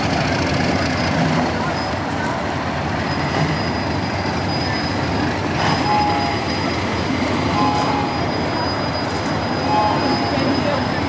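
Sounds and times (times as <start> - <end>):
train cars rolling on track: 0.0 - 11.0
wheel squeals on rails: 0.9 - 11.0.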